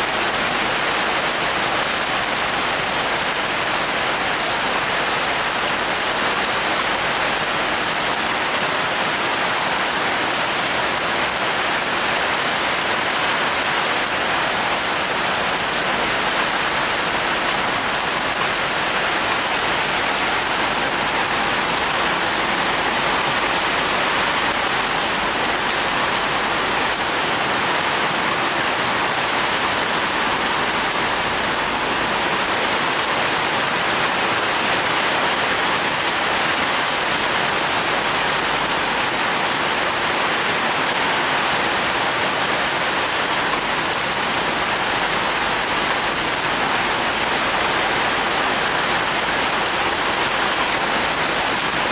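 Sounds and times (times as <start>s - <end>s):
heavy rain on plants: 0.0s - 51.9s.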